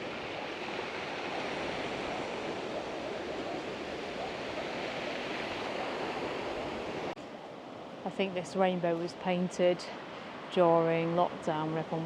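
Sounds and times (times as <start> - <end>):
sea surf washing ashore: 0.0 - 12.0.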